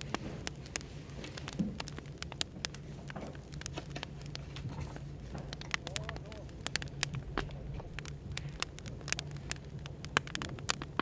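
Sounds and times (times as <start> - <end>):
cafe background hum: 0.0 - 11.0
firewood crackling and popping: 0.0 - 11.0.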